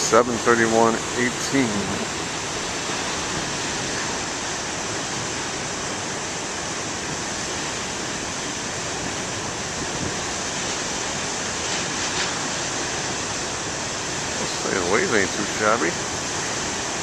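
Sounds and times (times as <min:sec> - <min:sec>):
waves breaking on shore: 0:00.0 - 0:17.0.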